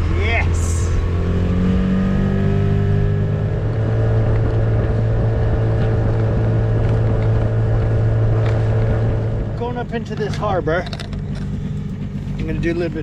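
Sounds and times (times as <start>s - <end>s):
wind noise on microphone: 0.0s - 12.1s
outboard motor drone: 0.0s - 13.0s.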